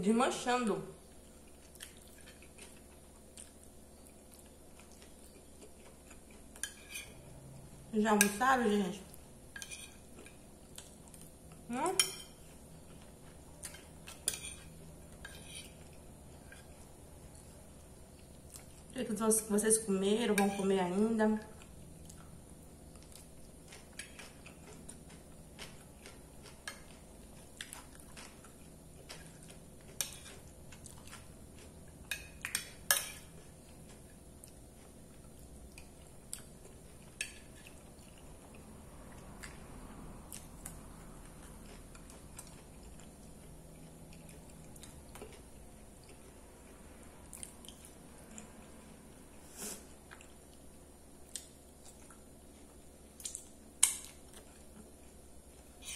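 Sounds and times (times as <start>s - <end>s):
person chewing: 1.1s - 7.2s, 12.5s - 18.9s, 21.6s - 39.6s, 40.3s - 48.7s, 49.6s - 55.9s.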